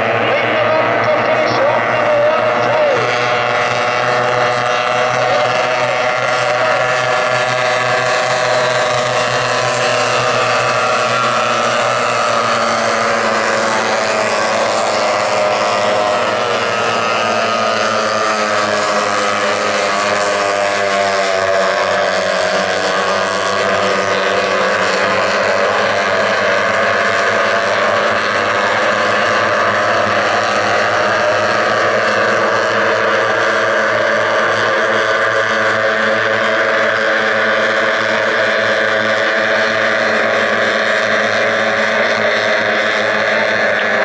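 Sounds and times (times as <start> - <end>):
racing boat outboard engines: 0.0 - 44.0.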